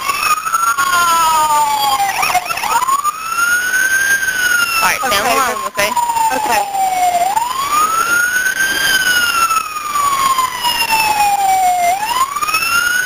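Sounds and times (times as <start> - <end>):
fire truck siren wailing: 0.0 - 13.0.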